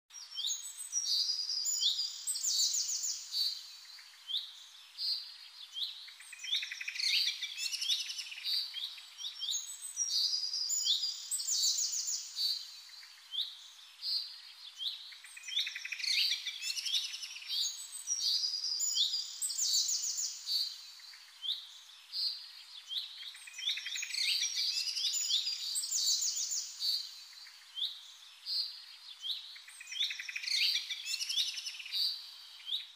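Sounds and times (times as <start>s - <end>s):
robin singing: 0.1s - 32.9s.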